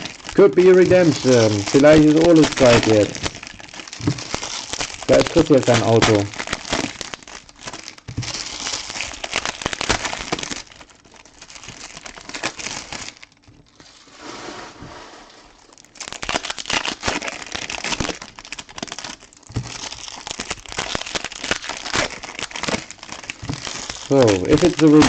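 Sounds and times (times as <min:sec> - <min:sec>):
card pack wrappers crinkling: 0:00.0 - 0:13.9, 0:15.5 - 0:25.0.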